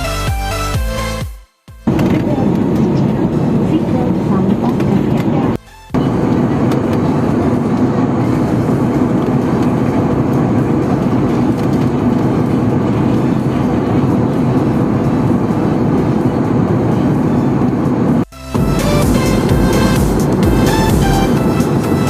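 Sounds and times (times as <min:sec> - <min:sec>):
jet engines droning in cabin: 0:01.9 - 0:22.0.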